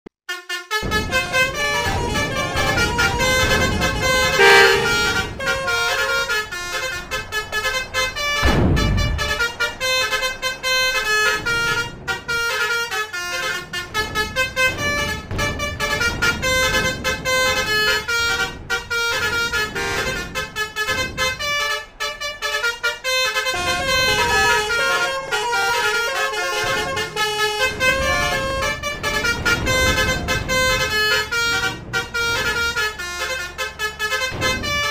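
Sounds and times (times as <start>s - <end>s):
multi-tone bus horns playing tunes: 0.3s - 34.9s
heavy vehicles rumbling past: 0.7s - 34.9s.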